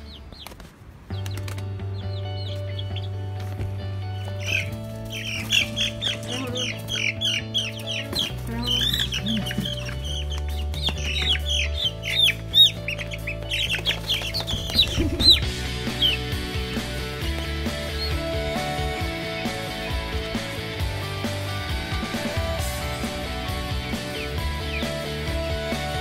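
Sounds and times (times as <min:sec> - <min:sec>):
background music: 0:00.0 - 0:26.0
chicks peeping: 0:00.0 - 0:26.0.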